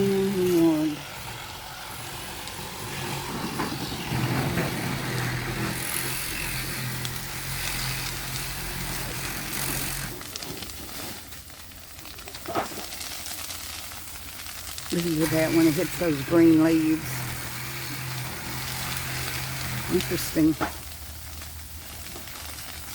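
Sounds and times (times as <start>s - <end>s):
engine running: 0.0s - 10.4s, 14.0s - 22.9s.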